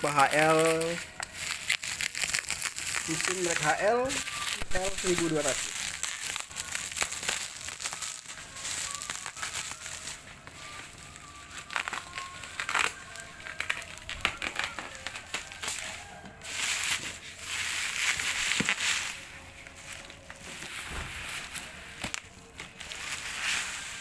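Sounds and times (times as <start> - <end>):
packaging crinkling: 0.0 - 24.0.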